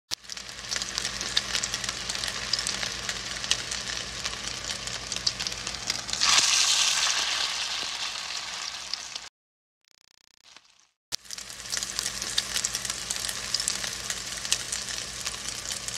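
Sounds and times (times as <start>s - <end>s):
food sizzling on a grill: 0.1s - 9.3s, 10.6s - 15.9s.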